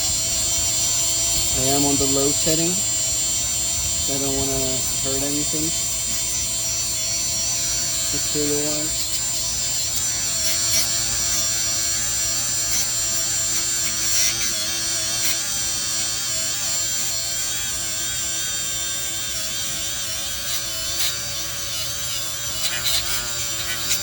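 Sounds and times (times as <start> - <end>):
power tool disc whining on metal: 0.0 - 24.0.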